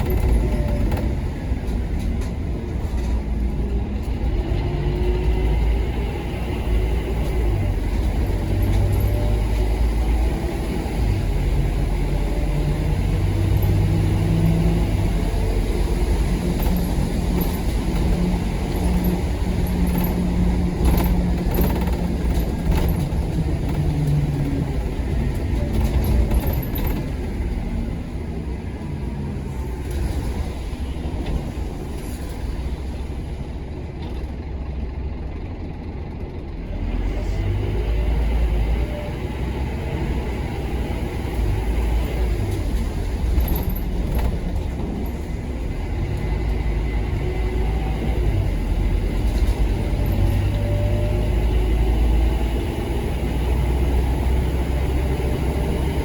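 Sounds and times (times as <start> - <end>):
bus diesel engine with gear changes: 0.0 - 56.0.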